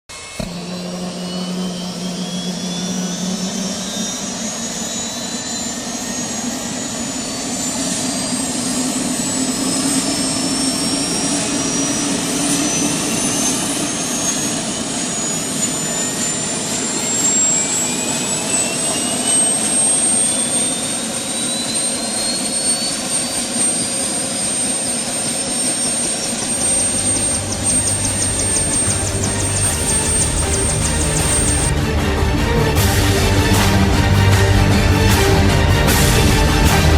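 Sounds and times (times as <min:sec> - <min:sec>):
helicopter turbine whine rising: 0:00.1 - 0:36.9
rushing engine noise: 0:00.1 - 0:36.9.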